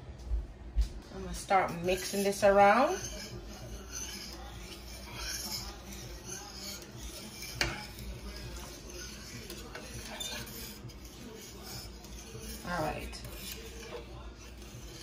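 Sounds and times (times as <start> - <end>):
spoon scraping a metal pot: 1.4 - 15.0.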